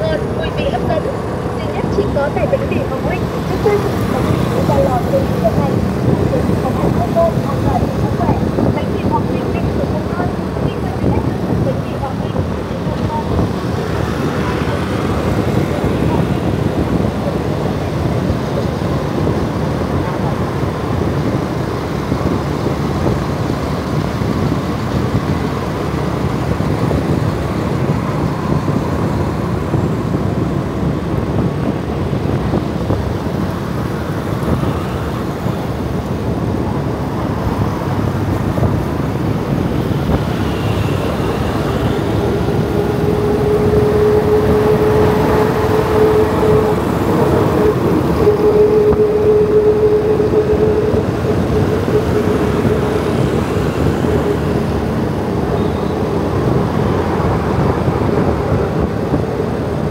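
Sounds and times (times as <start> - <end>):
motorbike riding: 0.0 - 59.9
passing traffic: 0.0 - 59.9
vehicle whine: 0.0 - 59.9.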